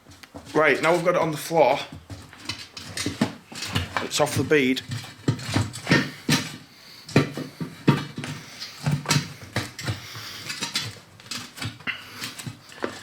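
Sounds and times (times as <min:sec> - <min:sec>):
metal tools clanking on wheel rim: 0:00.4 - 0:13.0.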